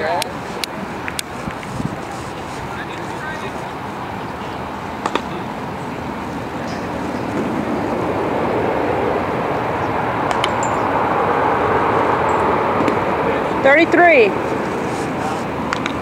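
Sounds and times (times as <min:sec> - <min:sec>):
passing traffic rushing: 0:00.0 - 0:16.0.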